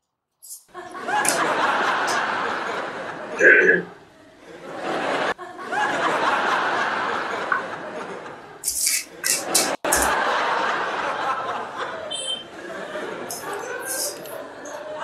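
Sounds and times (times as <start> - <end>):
canned audience laughter: 0.7 - 15.0.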